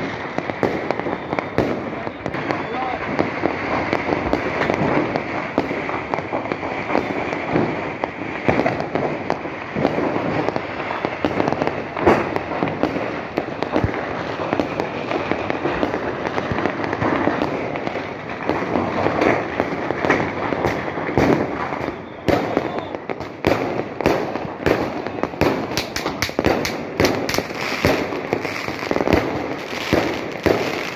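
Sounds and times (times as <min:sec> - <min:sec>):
fireworks pops and bangs: 0:00.0 - 0:30.9
loud firework booms: 0:00.0 - 0:30.9.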